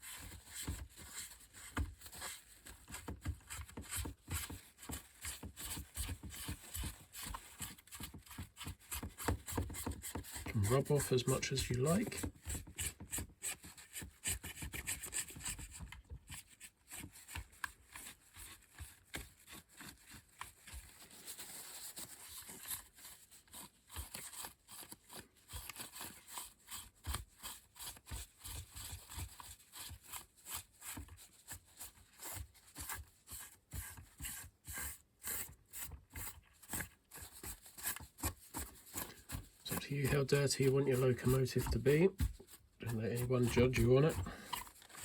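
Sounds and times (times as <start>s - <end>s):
tissue scuffing on plastic model: 0.0s - 45.0s.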